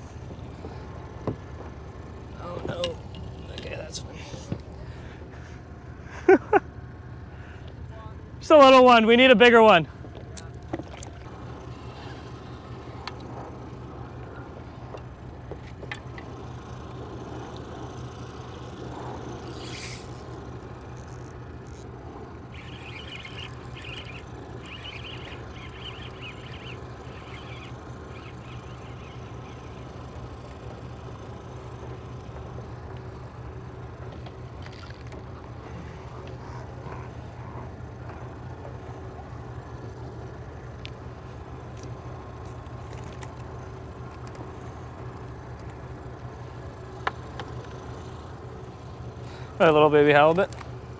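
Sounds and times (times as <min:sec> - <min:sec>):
low engine hum: 0:00.0 - 0:50.9.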